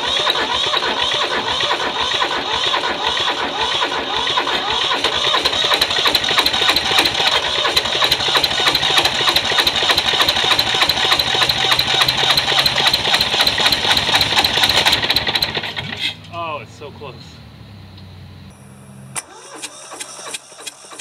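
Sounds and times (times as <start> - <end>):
diesel engine cranking: 0.0 - 21.0.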